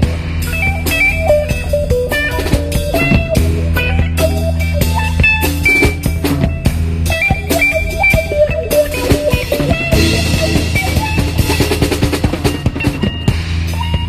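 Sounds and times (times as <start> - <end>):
bass: 0.0 - 14.0
busy drum kit: 0.0 - 14.0
electric guitar: 0.0 - 14.0.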